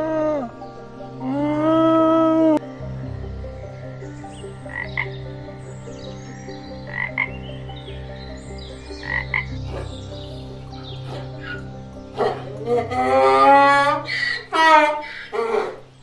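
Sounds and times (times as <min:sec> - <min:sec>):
drone of calling frogs: 0:00.0 - 0:16.0.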